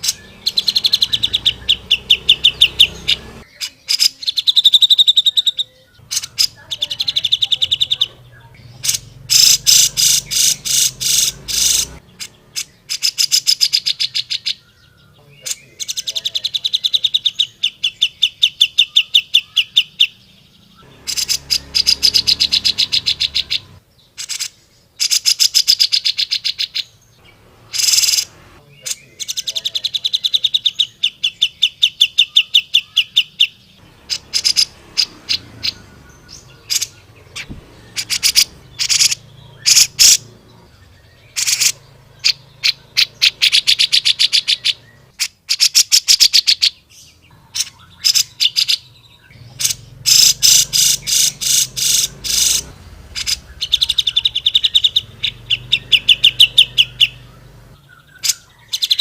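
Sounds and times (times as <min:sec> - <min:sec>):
bulbul singing rapid chattering phrases: 0:00.0 - 0:59.0.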